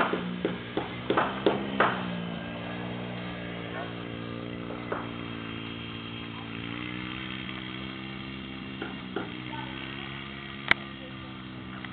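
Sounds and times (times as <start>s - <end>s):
four-wheeler engine running: 0.0s - 11.9s.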